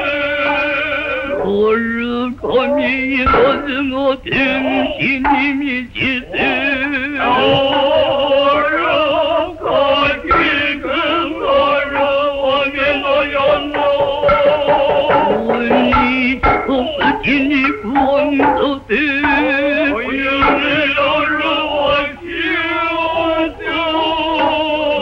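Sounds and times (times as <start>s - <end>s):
chanted singing with vibrato: 0.0s - 25.0s.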